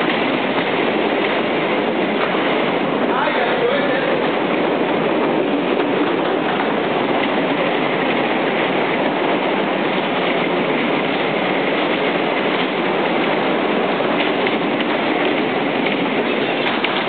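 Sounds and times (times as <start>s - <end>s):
bumper cars rolling on metal floor: 0.0s - 17.0s.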